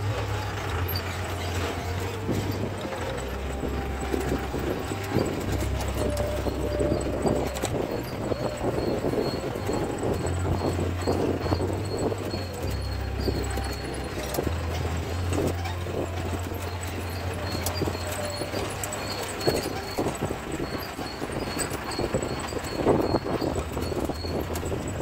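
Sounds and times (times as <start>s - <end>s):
low engine hum: 0.0s - 25.0s
vehicle body clattering: 0.0s - 25.0s.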